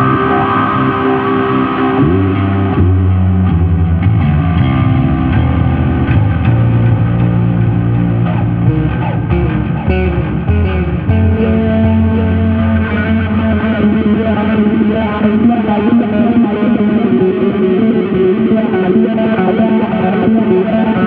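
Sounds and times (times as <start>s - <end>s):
electric bass played fingerstyle: 0.0s - 21.0s.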